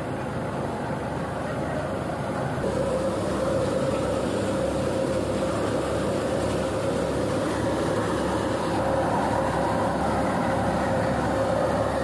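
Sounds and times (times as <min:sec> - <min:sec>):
thresher rumbling: 0:00.0 - 0:12.0.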